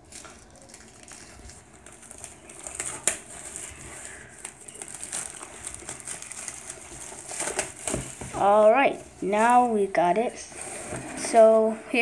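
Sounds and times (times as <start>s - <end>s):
plastic shrink-wrap crinkling and tearing: 0.0s - 10.0s.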